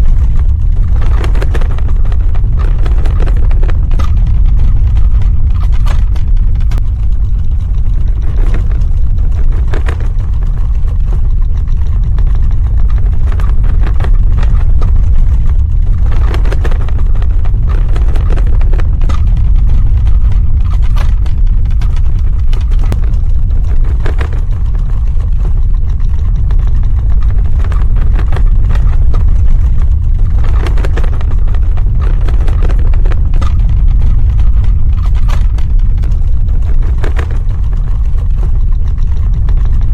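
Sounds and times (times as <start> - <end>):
deep earthquake rumble: 0.0 - 39.9
short crackles and rattles: 0.0 - 39.9.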